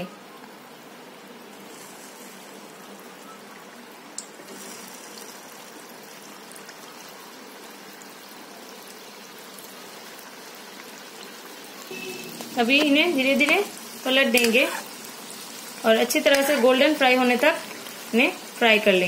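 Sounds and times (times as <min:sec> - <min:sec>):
dough balls sizzling in oil: 0:00.8 - 0:19.0.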